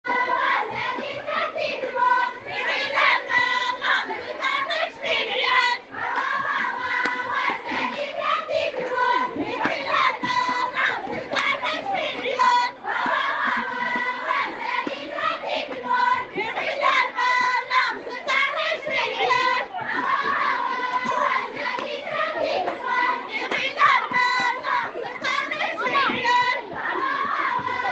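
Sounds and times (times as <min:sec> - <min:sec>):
crowd singing and chanting: 0:00.0 - 0:27.9.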